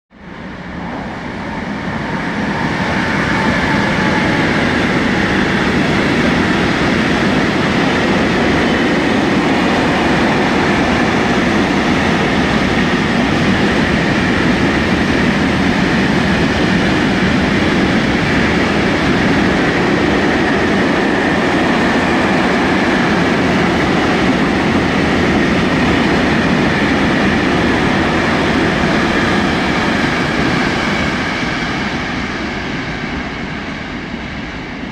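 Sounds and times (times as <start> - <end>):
freight train rumbling and rattling: 0.1 - 34.9.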